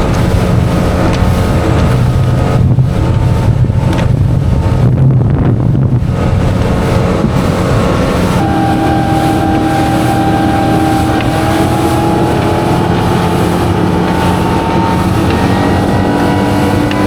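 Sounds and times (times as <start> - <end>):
outboard engine running: 0.0 - 17.0
wind buffeting microphone: 0.0 - 17.0.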